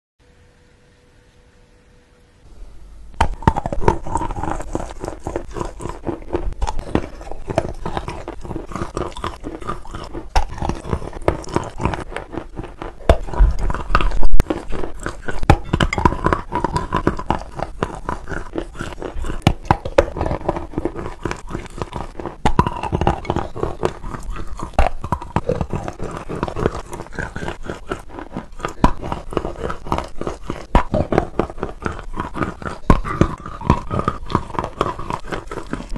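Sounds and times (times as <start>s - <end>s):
chewing and crunching chalk: 3.1s - 35.9s.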